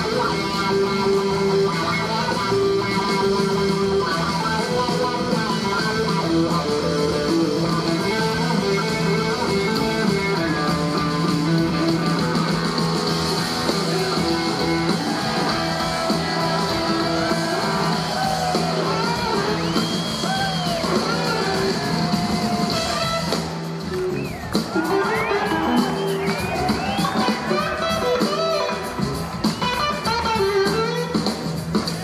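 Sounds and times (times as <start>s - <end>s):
bass and drums: 0.0s - 32.0s
crowd cheering: 0.0s - 32.0s
electric guitars: 0.0s - 32.0s.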